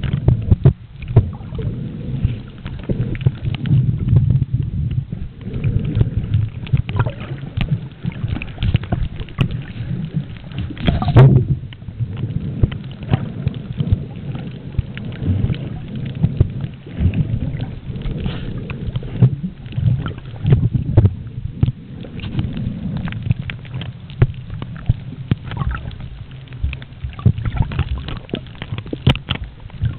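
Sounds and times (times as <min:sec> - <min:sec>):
muffled underwater rumble: 0:00.0 - 0:29.9
underwater crackles and knocks: 0:00.0 - 0:29.9.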